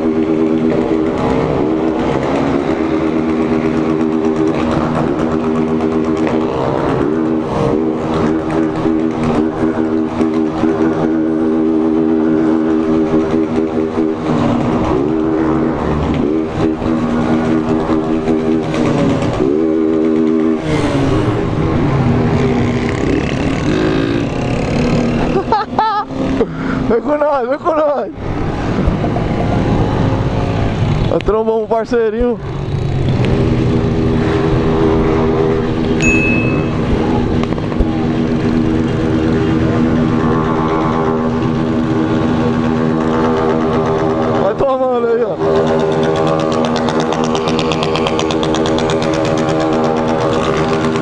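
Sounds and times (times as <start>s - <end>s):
motorcycle engines revving: 0.0s - 51.0s.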